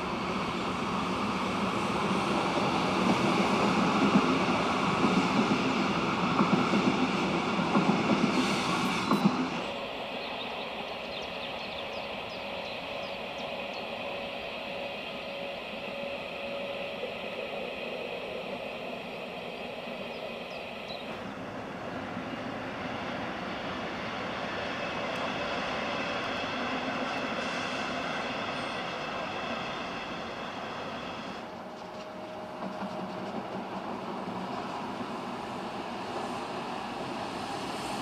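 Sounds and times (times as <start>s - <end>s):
distant electric train drone: 0.0s - 38.0s.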